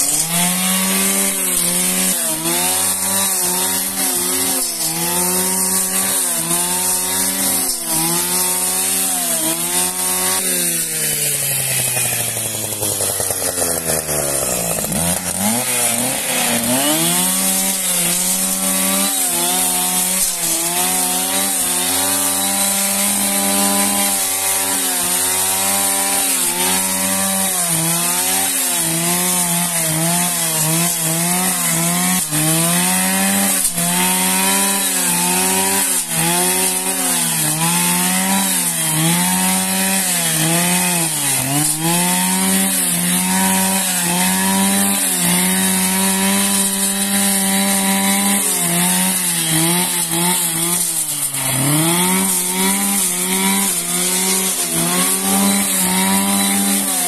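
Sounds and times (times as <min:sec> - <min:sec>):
brush cutter engine at high revs: 0:00.0 - 0:57.0.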